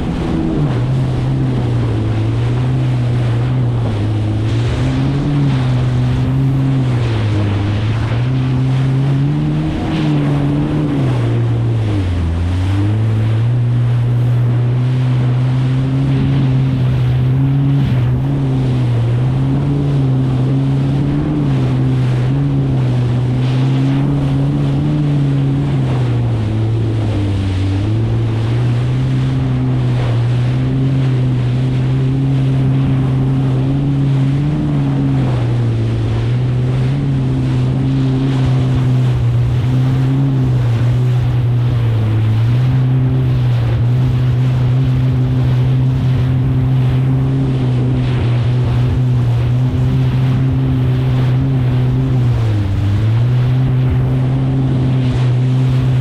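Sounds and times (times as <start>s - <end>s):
jet ski engine running: 0.0s - 56.0s
water rushing and splashing: 0.0s - 56.0s
wind buffeting microphone: 0.0s - 56.0s.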